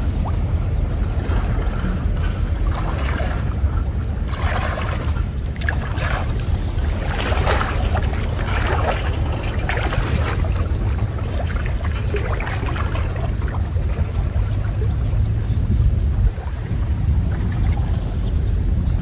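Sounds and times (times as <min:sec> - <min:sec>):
steady low rumble: 0:00.0 - 0:19.0
water sloshing from wading: 0:00.0 - 0:19.0.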